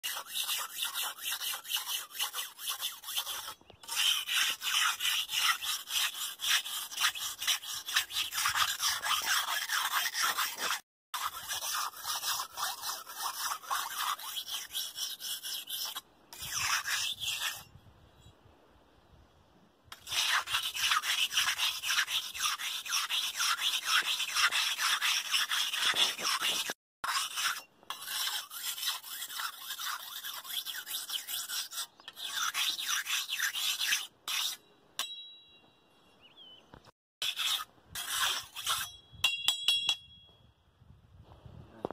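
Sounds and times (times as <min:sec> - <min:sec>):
machete scraping on stone: 0:00.0 - 0:17.8, 0:19.9 - 0:35.2, 0:37.2 - 0:39.4.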